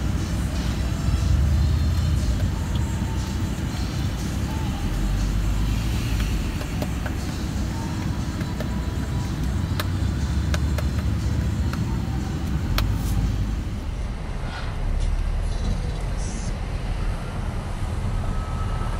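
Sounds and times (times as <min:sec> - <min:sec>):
city street rumble: 0:00.0 - 0:18.9.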